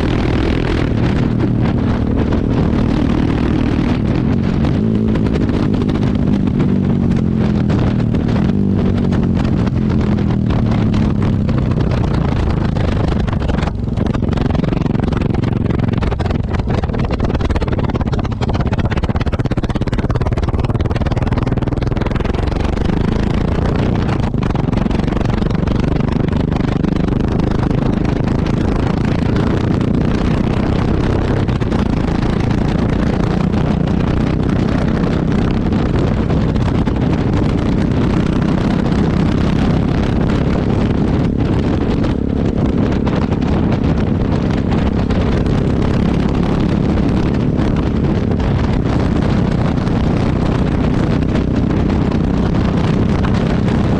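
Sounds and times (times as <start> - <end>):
motorcycle engine running: 0.0 - 53.9
wind on microphone: 0.0 - 53.9.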